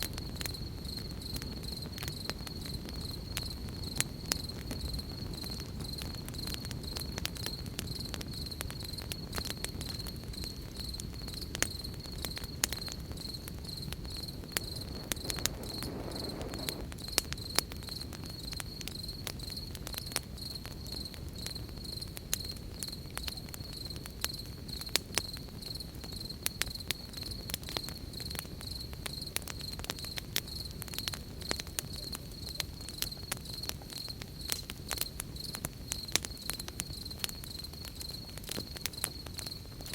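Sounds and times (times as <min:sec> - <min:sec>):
campfire crackling and popping: 0:00.0 - 0:39.9
crickets chirring: 0:00.0 - 0:39.9.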